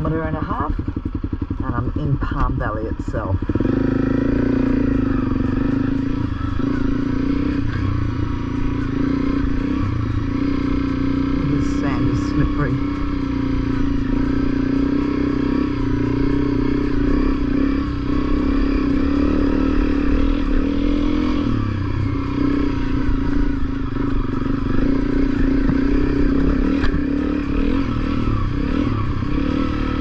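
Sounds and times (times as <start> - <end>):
motorcycle engine at low revs: 0.0 - 30.0.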